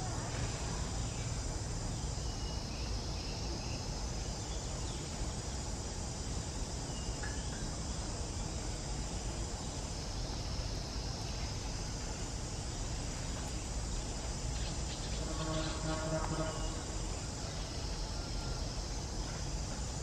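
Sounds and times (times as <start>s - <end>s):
high insect hum: 0.0s - 20.0s.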